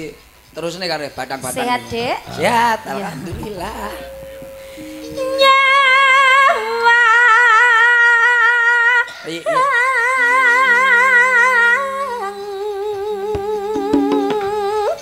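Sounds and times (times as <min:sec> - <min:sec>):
sustained accompaniment tones: 0:00.0 - 0:15.0
woman singing with vibrato: 0:01.6 - 0:15.0.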